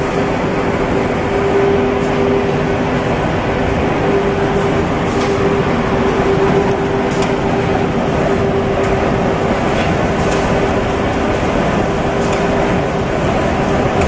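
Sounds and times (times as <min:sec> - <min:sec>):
carton machine running: 0:00.0 - 0:14.0.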